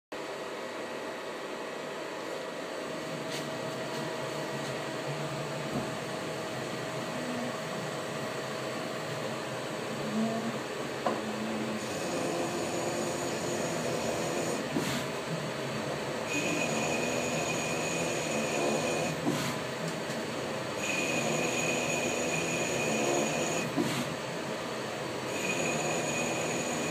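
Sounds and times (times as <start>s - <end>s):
lathe machine hum: 1.2s - 26.9s.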